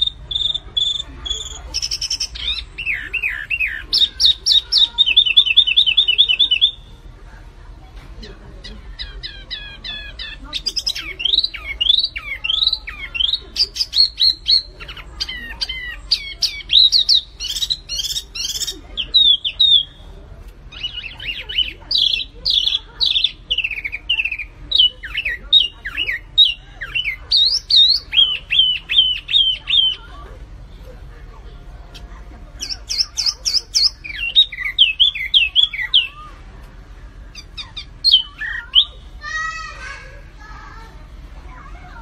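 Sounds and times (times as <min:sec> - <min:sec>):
songbird whistling song: 0:00.0 - 0:06.9, 0:08.6 - 0:30.2, 0:32.6 - 0:36.4, 0:37.3 - 0:39.2.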